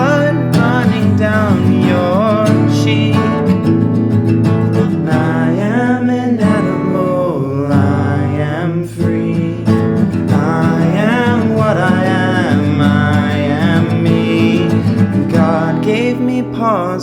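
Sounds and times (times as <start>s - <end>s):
person singing: 0.0s - 3.9s, 4.6s - 17.0s
acoustic guitar strumming: 0.0s - 17.0s.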